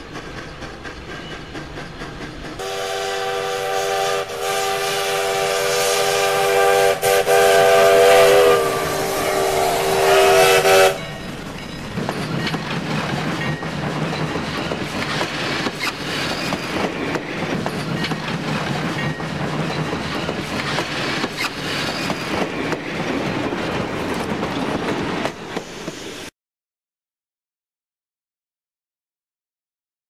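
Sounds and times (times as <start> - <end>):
model train wheels rumbling: 0.0 - 26.2.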